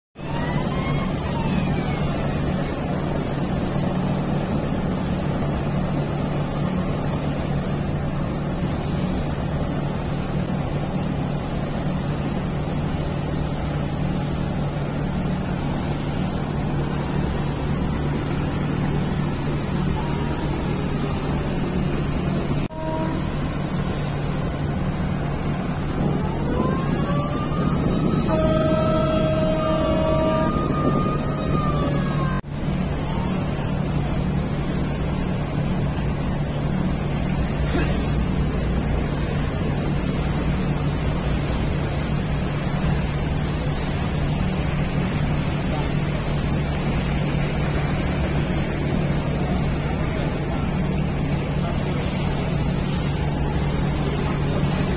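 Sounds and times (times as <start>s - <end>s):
boat engine droning: 0.2s - 54.9s
water rushing: 0.2s - 54.9s.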